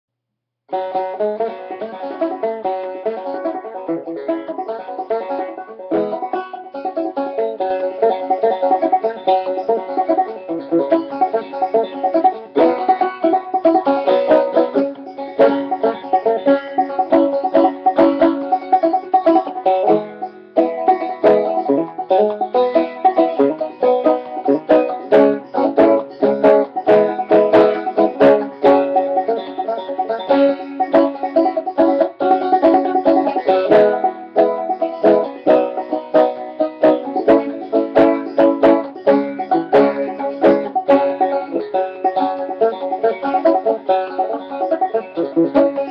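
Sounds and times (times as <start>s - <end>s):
banjo playing: 0.7s - 45.9s.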